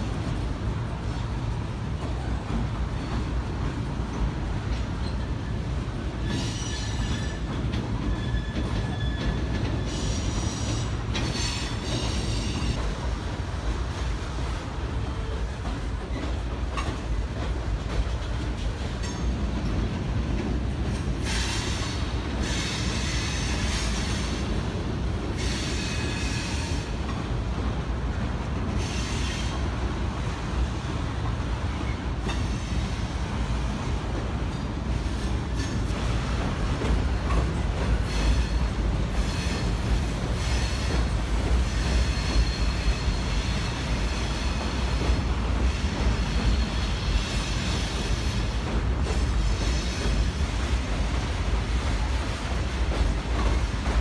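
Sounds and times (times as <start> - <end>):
train rumbling over viaduct: 0.0 - 54.0.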